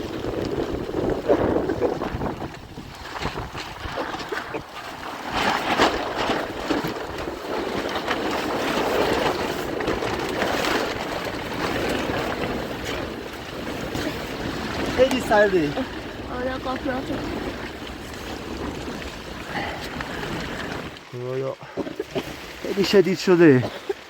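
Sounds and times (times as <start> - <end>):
wind buffeting microphone: 0.0 - 21.1
heavy rain: 0.0 - 24.0.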